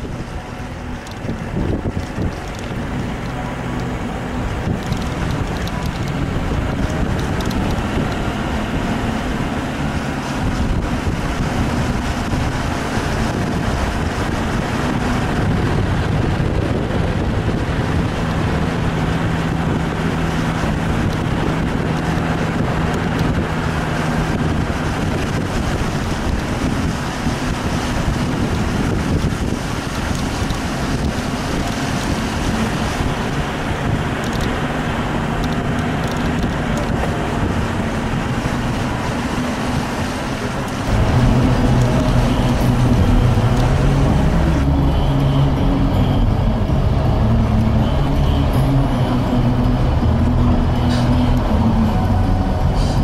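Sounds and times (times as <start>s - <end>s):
vehicle engine humming: 0.0s - 53.0s
wind rushing over microphone: 0.0s - 53.0s.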